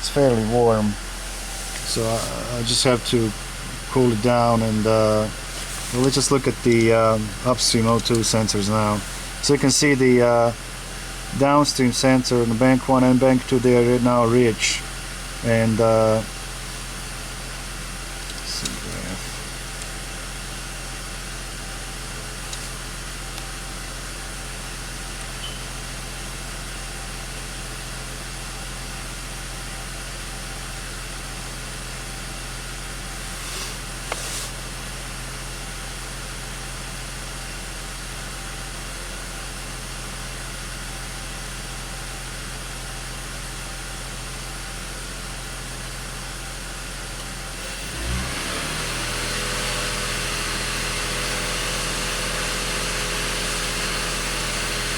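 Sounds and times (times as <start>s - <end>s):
car engine idling: 0.0s - 48.1s.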